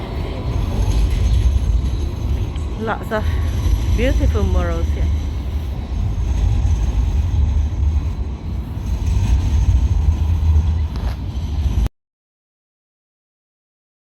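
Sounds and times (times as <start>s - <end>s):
loud low rumble: 0.0s - 11.9s.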